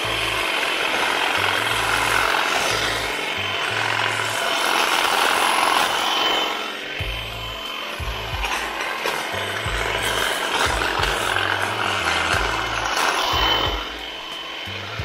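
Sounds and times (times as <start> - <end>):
hedge trimmer cutting hedge: 0.0 - 15.0.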